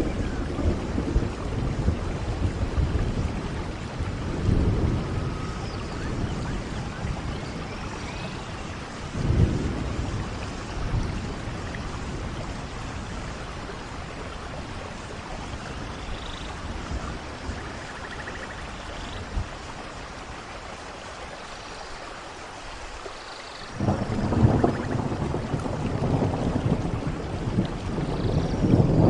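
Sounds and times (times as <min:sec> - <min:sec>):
thunder rumbling: 0:00.0 - 0:19.7, 0:23.7 - 0:29.0
rain falling in forest: 0:00.0 - 0:29.0.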